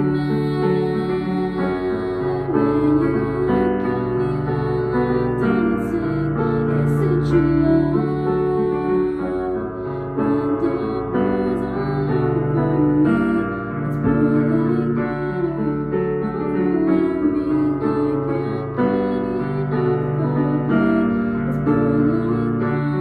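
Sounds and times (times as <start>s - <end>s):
digital piano chords: 0.0s - 23.0s.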